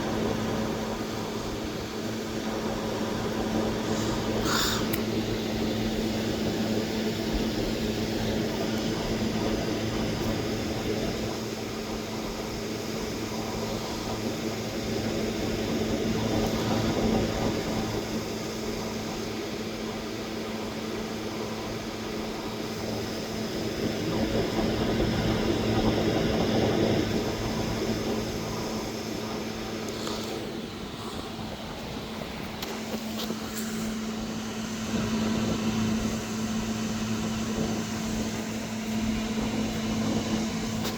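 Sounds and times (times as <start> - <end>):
low mechanical hum: 0.0 - 40.9.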